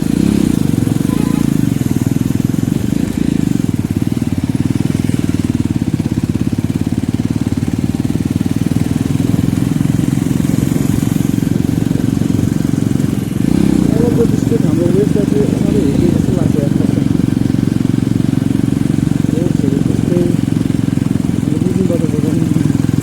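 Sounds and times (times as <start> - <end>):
motorcycle engine pulsing: 0.0 - 23.0.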